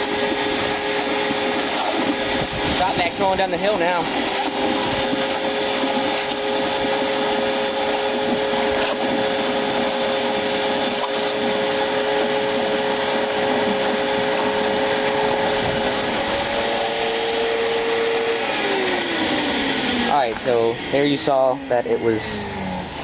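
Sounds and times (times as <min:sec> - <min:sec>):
vacuum motor whine: 0:00.0 - 0:23.0
wet vacuum roaring: 0:00.0 - 0:23.0.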